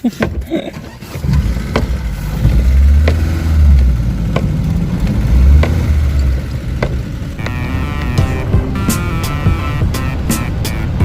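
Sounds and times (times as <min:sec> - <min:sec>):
old car engine rumbling: 0:00.0 - 0:11.0.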